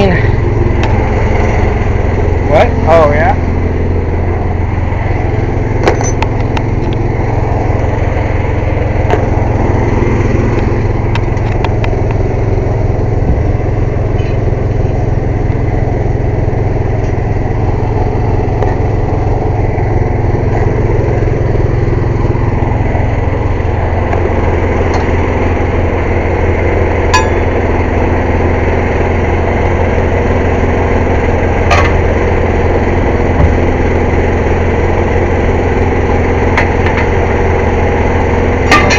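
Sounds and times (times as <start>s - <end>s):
air compressor engine droning: 0.0s - 38.9s.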